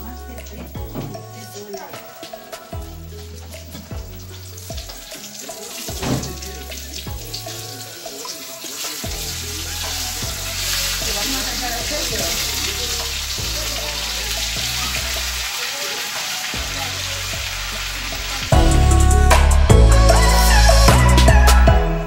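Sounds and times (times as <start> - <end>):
food sizzling in a pan: 0.0 - 18.9.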